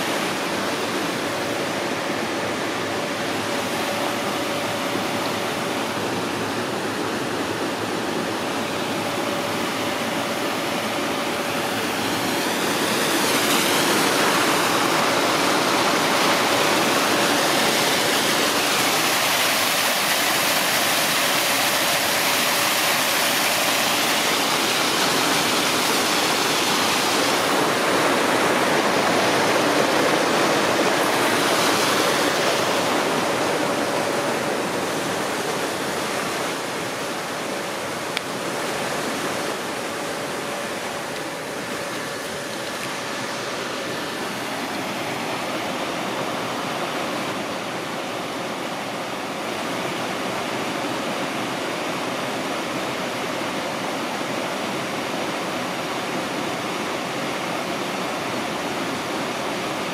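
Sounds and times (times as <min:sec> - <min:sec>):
water rushing through waterwheel: 0:00.0 - 0:59.9.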